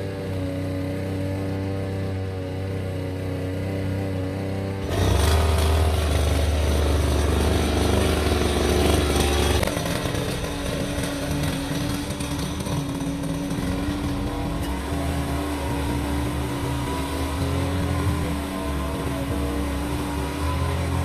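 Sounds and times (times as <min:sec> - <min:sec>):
brush cutter engine running: 0:00.0 - 0:21.0.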